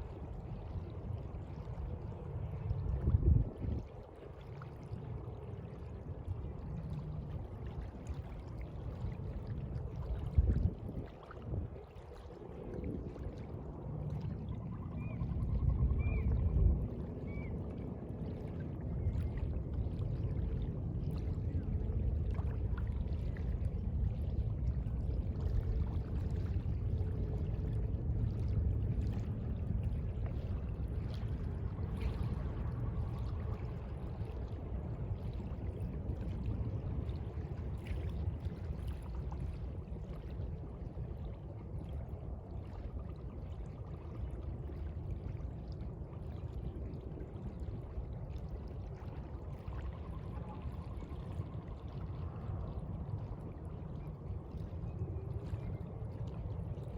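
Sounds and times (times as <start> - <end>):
sea water washing and lapping: 0.0 - 56.9.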